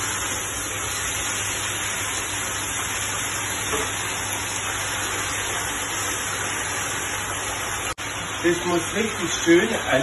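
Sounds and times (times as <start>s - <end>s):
meat searing in a pan: 0.0s - 10.0s.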